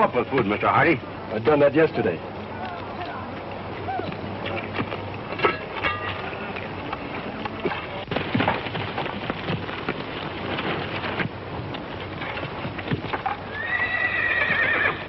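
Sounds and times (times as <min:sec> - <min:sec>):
horses galloping on dirt: 0:00.0 - 0:15.0.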